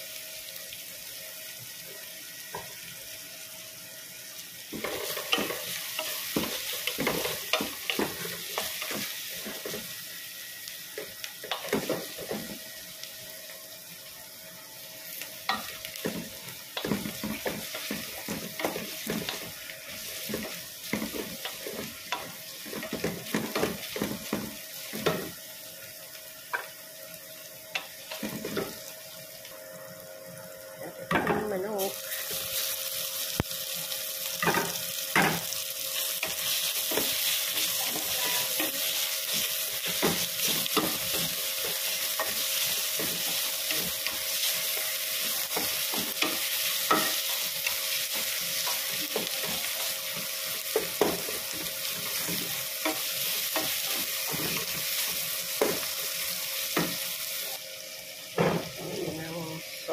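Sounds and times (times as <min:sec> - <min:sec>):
onions sizzling in pot: 0:00.0 - 0:59.9.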